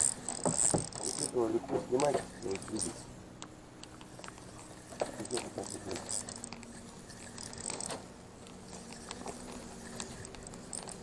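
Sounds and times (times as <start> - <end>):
fishing reel whirring: 0.0 - 3.2, 3.8 - 11.0
light clicks and scrapes: 0.0 - 11.0.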